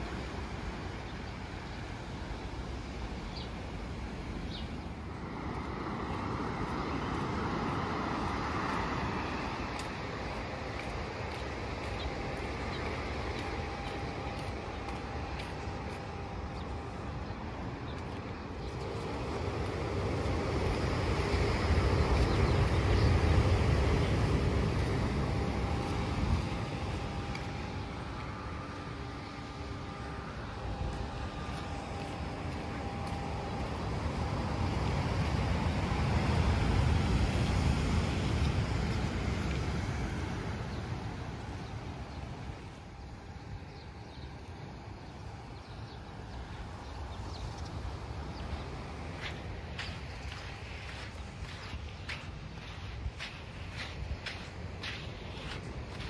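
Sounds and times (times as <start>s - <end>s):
waves washing ashore: 0.0s - 56.0s.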